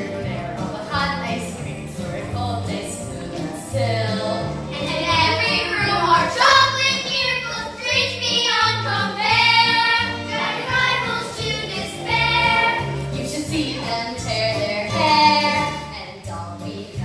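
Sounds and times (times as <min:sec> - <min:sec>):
musical backing with bass line: 0:00.0 - 0:17.0.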